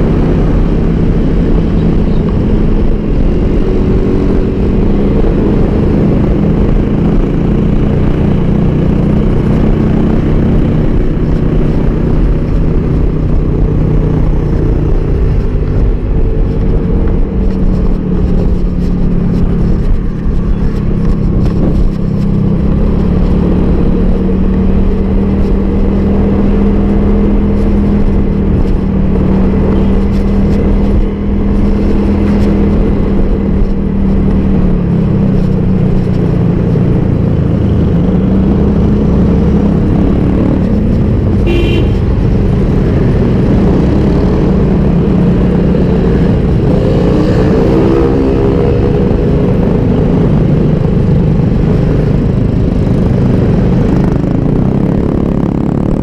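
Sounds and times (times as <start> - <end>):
motorcycle engine cruising: 0.0 - 56.0
road and wind rumble: 0.0 - 56.0.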